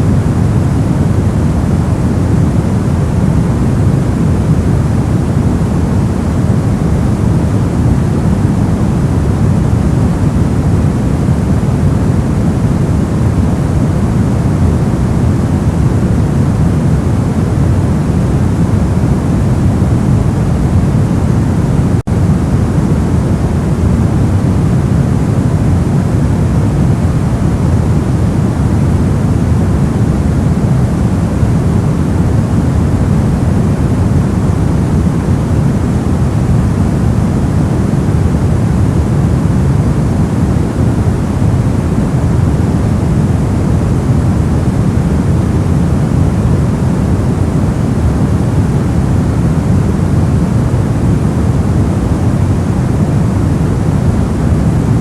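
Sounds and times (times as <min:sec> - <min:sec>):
deep white noise hiss: 0:00.0 - 0:55.0.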